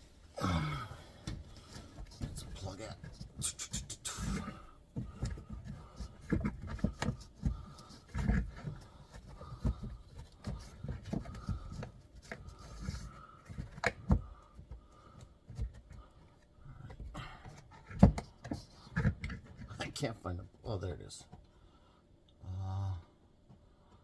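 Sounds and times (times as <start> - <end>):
hands knocking and scraping wiring: 1.2 - 20.5.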